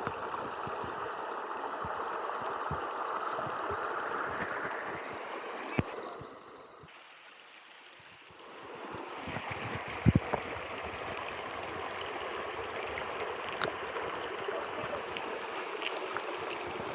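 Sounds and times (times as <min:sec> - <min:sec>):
river water flowing: 0:00.0 - 0:16.9.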